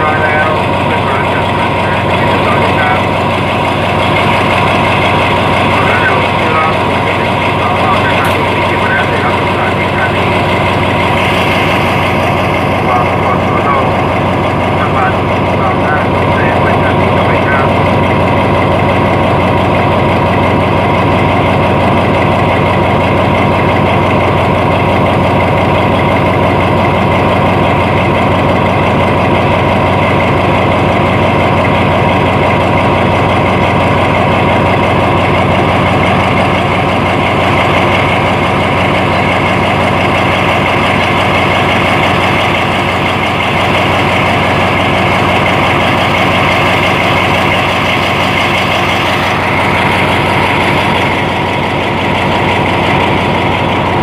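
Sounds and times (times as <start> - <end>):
diesel locomotive engine idling: 0.0 - 54.0.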